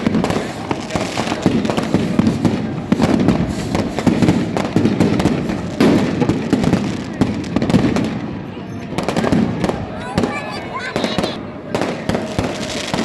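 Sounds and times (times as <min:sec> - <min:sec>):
fireworks and firecrackers bangs: 0:00.0 - 0:13.0.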